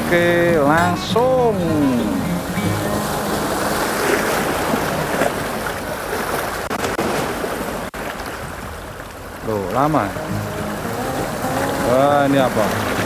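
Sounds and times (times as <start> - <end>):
sea water washing: 0.0 - 13.0.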